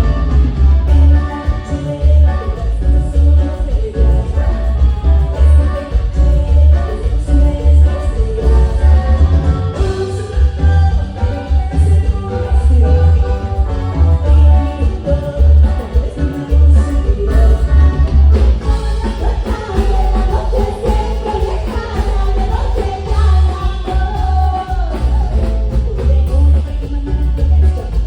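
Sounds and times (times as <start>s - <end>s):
heavy pulsing bass: 0.0s - 28.0s
live band playing: 0.0s - 28.0s
person singing: 0.0s - 28.0s.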